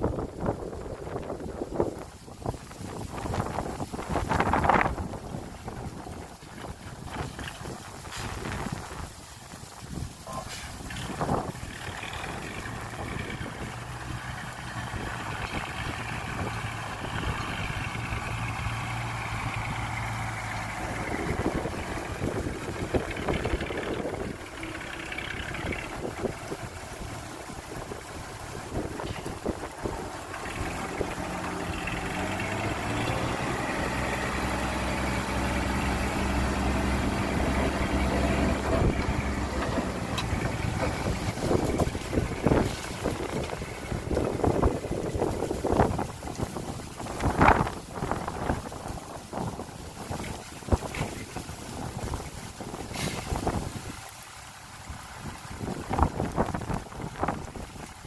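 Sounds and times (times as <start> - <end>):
diesel engine running: 0.0 - 58.0
engine clattering: 0.0 - 58.0.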